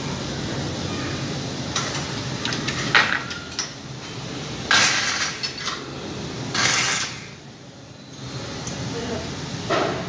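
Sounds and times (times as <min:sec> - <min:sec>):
welding arc crackling and hissing: 0:00.0 - 0:09.7.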